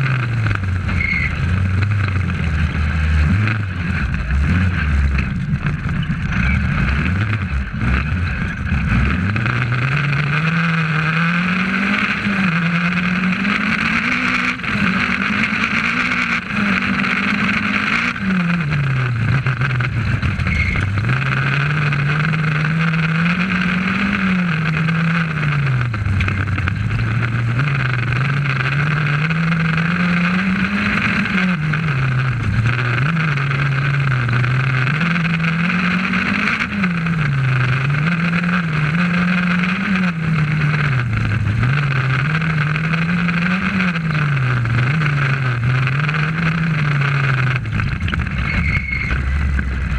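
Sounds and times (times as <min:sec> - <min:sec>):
rally car engine revving: 0:00.0 - 0:49.9
road and cabin noise: 0:00.0 - 0:49.9.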